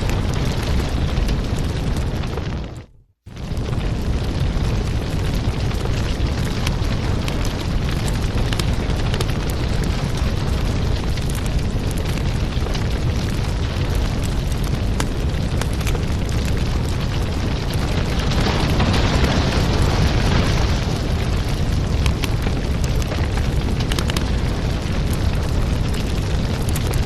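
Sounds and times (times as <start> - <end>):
low rumble: 0.0 - 27.0
wood fire crackling: 0.0 - 27.0.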